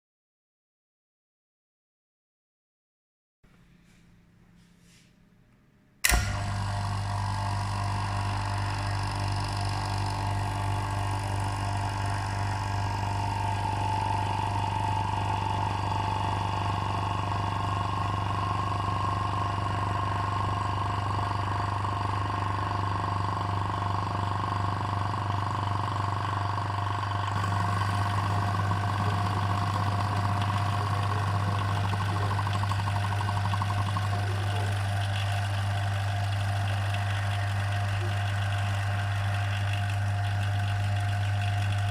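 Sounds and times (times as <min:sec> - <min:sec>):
electric vacuum pump humming: 0:06.0 - 0:41.9.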